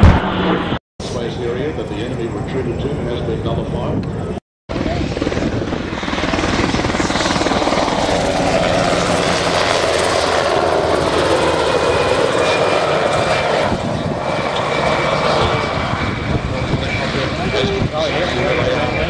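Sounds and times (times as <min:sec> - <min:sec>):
helicopter flying low past: 0:00.0 - 0:19.0.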